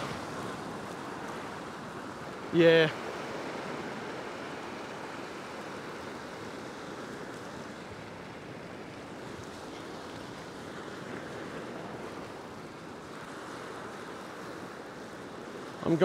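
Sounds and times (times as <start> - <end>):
ocean surf washing over rocks: 0.0 - 16.0.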